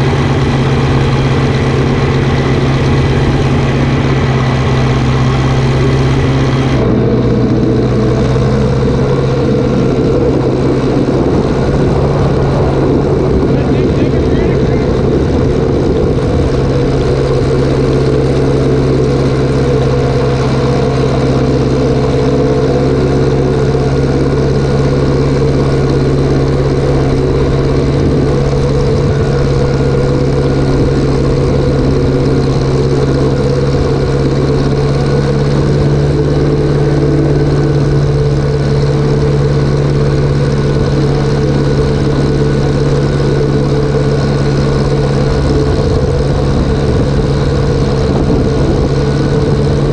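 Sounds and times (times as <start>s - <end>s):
farm machinery engine running: 0.0s - 49.9s.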